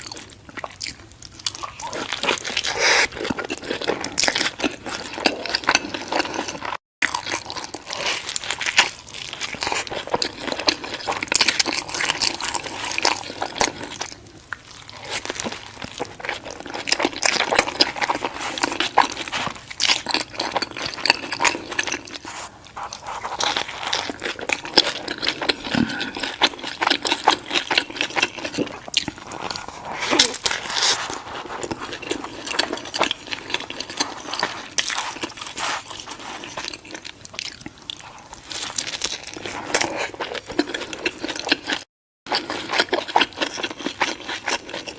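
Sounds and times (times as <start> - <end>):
chewing and biting burger: 0.0 - 44.9.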